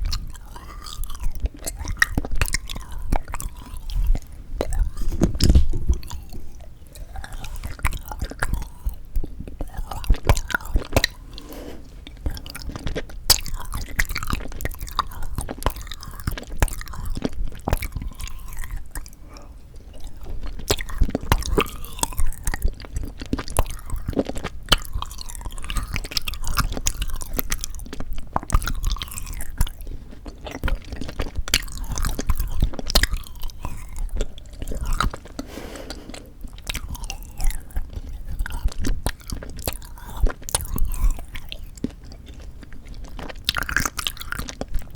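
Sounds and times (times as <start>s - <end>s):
chewing with wet mouth clicks: 0.0s - 44.9s.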